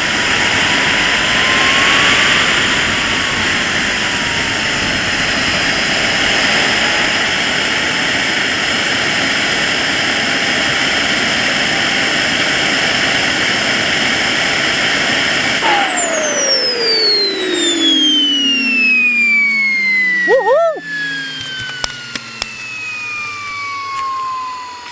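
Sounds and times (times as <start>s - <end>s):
jet turbine whine: 0.0s - 24.9s.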